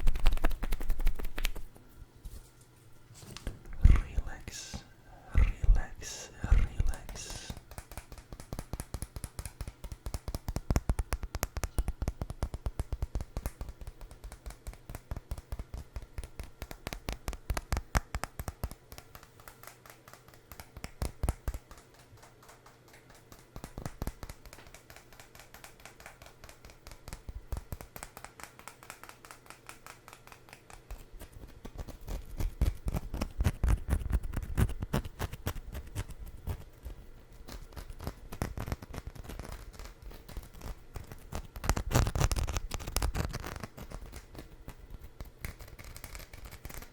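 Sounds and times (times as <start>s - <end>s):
fingers tapping and scratching food: 0.0s - 1.8s, 3.7s - 46.9s.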